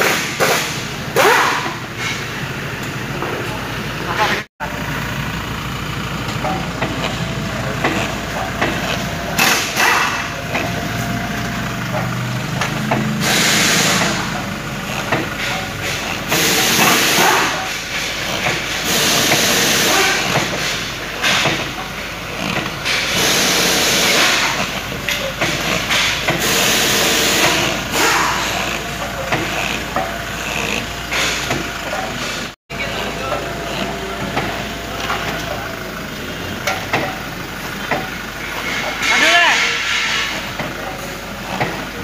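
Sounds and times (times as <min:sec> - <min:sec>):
vehicle running: 0:00.0 - 0:42.0.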